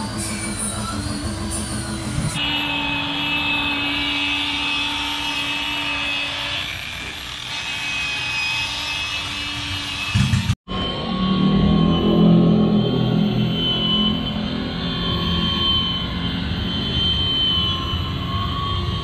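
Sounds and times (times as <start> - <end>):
electric polisher motor whine: 0.0 - 19.0.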